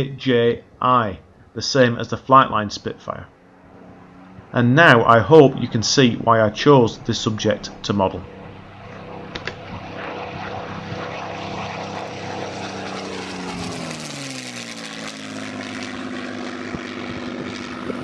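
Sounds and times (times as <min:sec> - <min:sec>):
propeller plane engine drone: 0:00.0 - 0:18.0.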